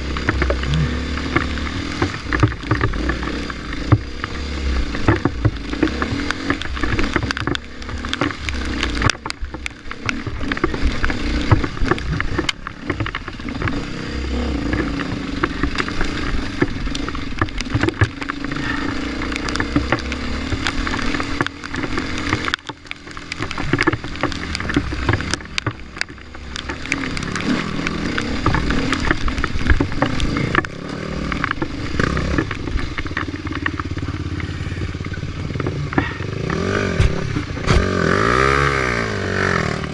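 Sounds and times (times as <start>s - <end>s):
dirt bike engine revving: 0.0s - 22.6s, 23.2s - 39.9s
knocks and clatter from bike: 0.0s - 39.9s.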